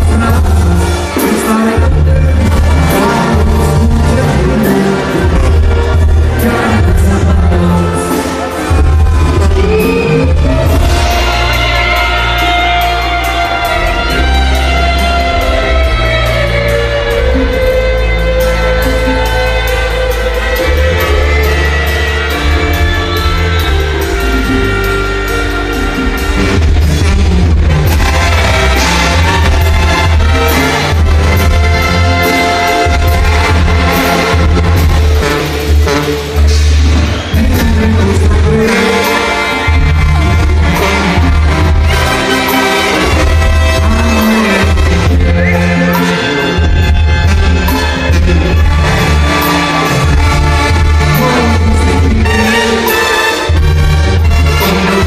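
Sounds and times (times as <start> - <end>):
banda music with tuba and brass: 0.0 - 55.0
drums: 0.0 - 55.0.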